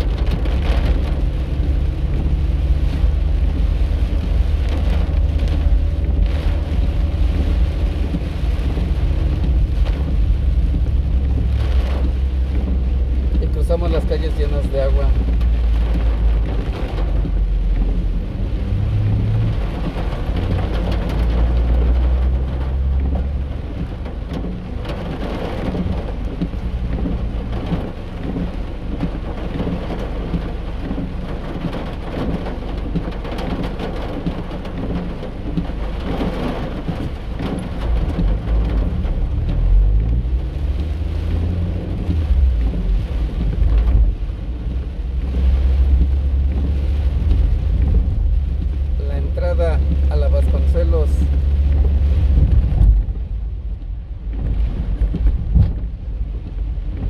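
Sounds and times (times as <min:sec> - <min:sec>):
car engine rumble: 0:00.0 - 0:57.0
rain on car roof: 0:00.0 - 0:57.0
tyres on wet road: 0:00.0 - 0:57.0.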